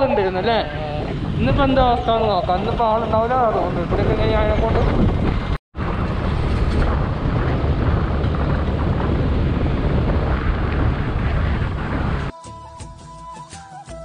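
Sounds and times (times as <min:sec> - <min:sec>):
scooter engine and road noise: 0:00.0 - 0:12.3
wind rumble on microphone: 0:00.0 - 0:12.4.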